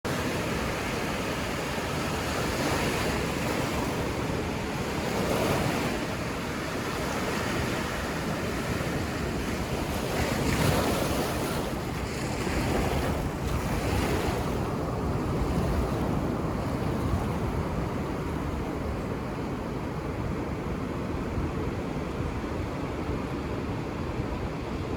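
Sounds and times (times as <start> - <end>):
ocean surf washing on beach: 0.1 - 24.9
wind on microphone: 0.1 - 24.9.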